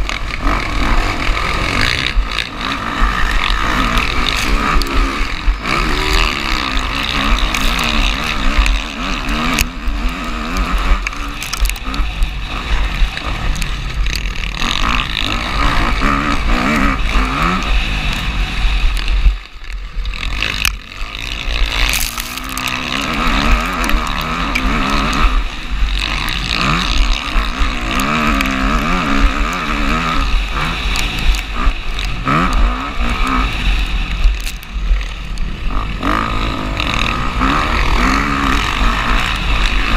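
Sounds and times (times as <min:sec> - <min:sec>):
motocross bike engine revving: 0:00.0 - 0:39.9
wind rumble on microphone: 0:00.0 - 0:39.9.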